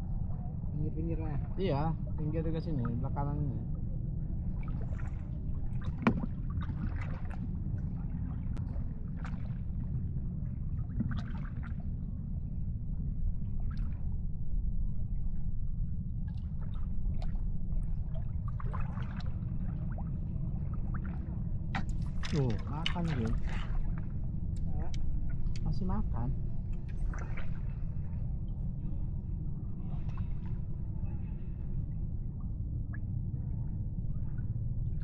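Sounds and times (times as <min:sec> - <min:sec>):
low boat rumble: 0:00.0 - 0:35.0
water splashes and gurgles: 0:00.3 - 0:35.0.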